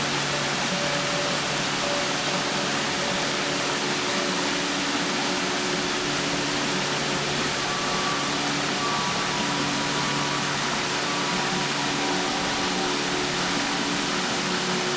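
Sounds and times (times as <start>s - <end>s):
waterfall roaring: 0.0s - 14.9s.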